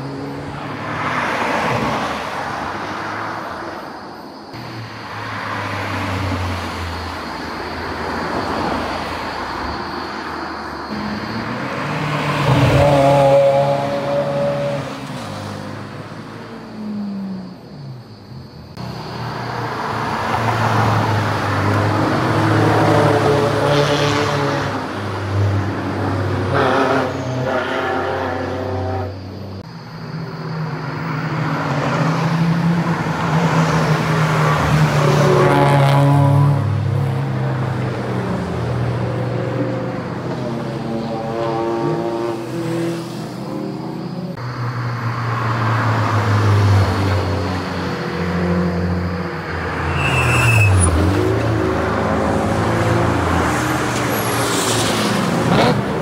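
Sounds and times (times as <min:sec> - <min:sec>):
sports cars passing: 0:00.0 - 0:04.0, 0:04.6 - 0:18.1, 0:18.7 - 0:56.0.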